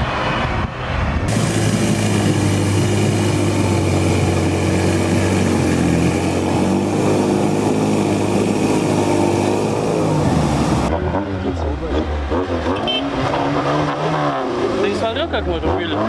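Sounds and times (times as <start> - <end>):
vehicle engine running hard: 0.0 - 16.0.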